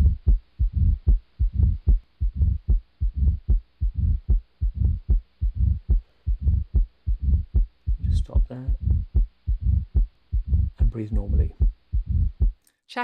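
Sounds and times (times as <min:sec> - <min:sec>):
heart murmur: 0:00.0 - 0:12.6
heartbeat through stethoscope: 0:00.0 - 0:12.6.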